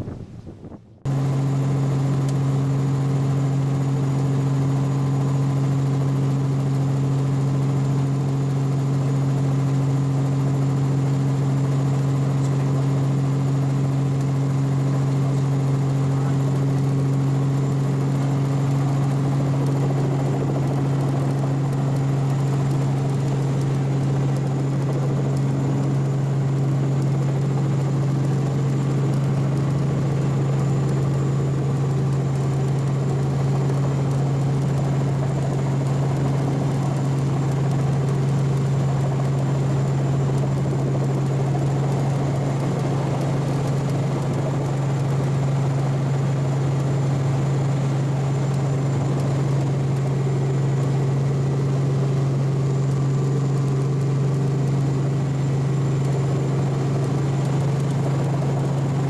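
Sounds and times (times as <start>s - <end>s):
helicopter engine and rotor hum: 0.0s - 59.0s.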